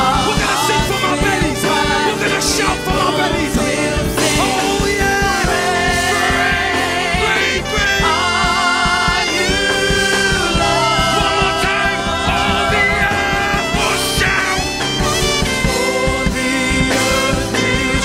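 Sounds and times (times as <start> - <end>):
people singing long notes: 0.0 - 18.0
steady drum beat: 0.0 - 18.0
worship band playing: 0.0 - 18.0.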